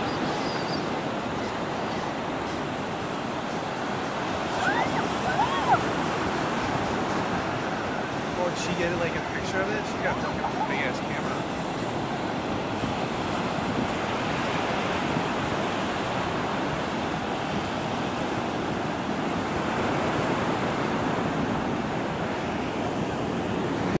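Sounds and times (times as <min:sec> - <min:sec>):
ocean surf breaking: 0:00.0 - 0:24.0.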